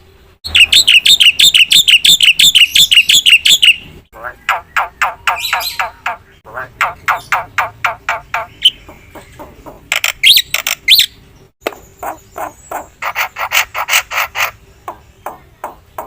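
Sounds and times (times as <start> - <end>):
myna chirping: 0.4 - 16.0.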